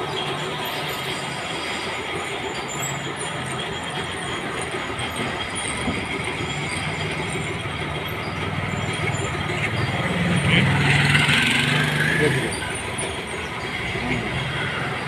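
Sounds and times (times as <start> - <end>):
machinery clattering: 0.0 - 15.0.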